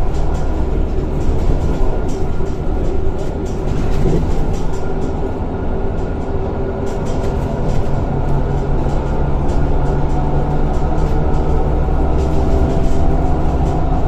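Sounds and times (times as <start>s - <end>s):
bus engine running: 0.0s - 14.0s
interior rattles: 0.0s - 14.0s
low steady drone: 0.0s - 14.0s
road rumble: 0.0s - 14.0s.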